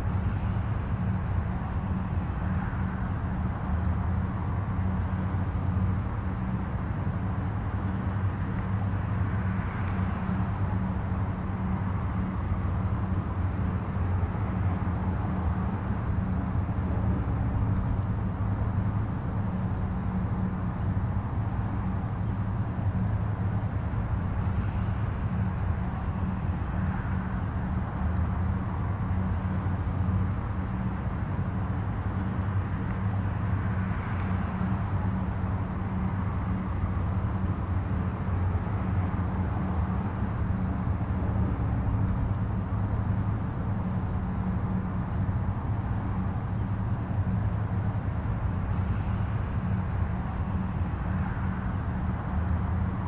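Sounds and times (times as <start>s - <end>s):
distant highway traffic rumble: 0.0s - 53.0s.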